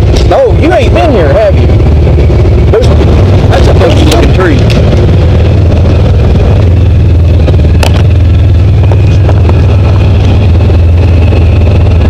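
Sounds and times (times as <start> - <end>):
utility vehicle engine droning: 0.0 - 12.0.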